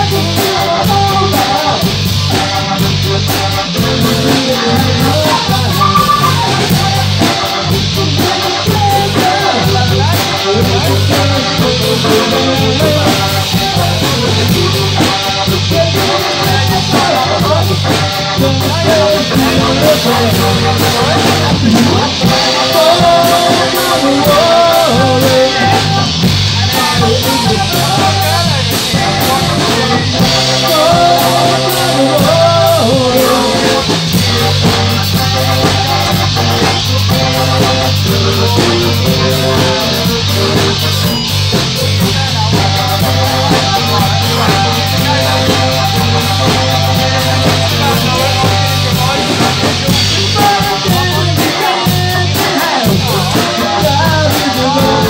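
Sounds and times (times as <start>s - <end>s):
man singing: 0.0s - 55.0s
rock band playing: 0.0s - 55.0s.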